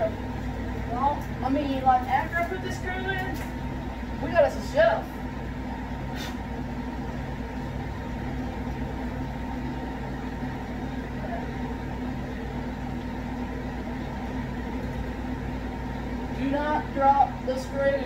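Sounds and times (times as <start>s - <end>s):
fan droning: 0.0s - 18.0s
laundry machine running: 0.0s - 18.0s
pulsing low hum: 0.0s - 18.0s.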